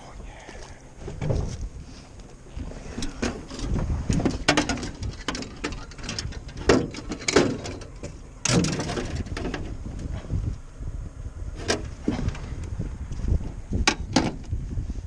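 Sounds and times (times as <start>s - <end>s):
knocks and rustling in boat: 0.5s - 10.6s, 11.6s - 14.6s.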